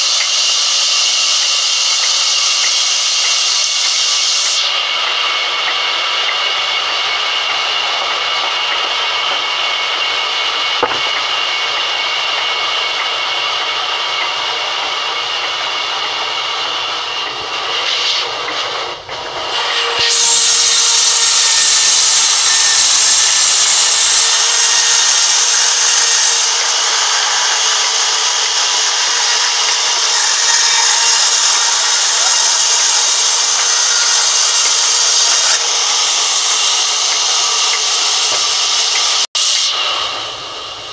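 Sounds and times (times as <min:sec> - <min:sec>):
band saw whining: 0:00.0 - 0:40.9.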